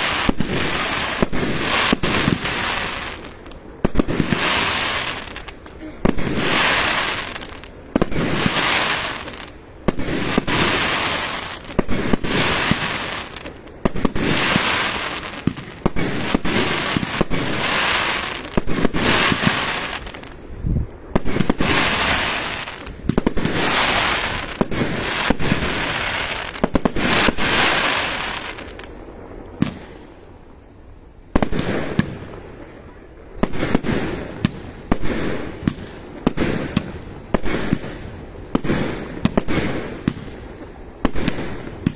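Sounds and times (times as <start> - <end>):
fireworks crackling: 0.0 - 41.9.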